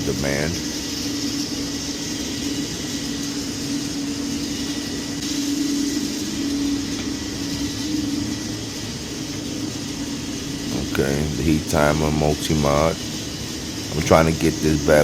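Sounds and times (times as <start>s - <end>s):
machinery humming and rushing: 0.0s - 15.0s.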